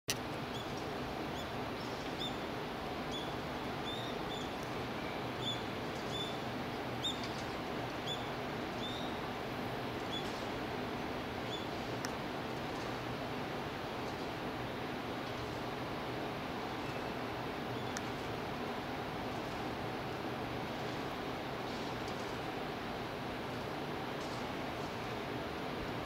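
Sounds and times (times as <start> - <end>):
outdoor background hiss: 0.1 - 26.0.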